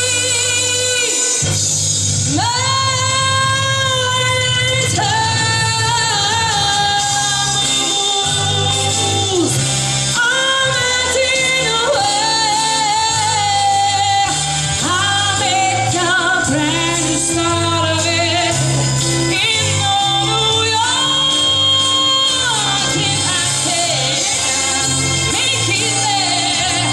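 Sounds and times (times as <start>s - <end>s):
woman singing into a microphone: 0.0s - 1.6s, 2.3s - 26.9s.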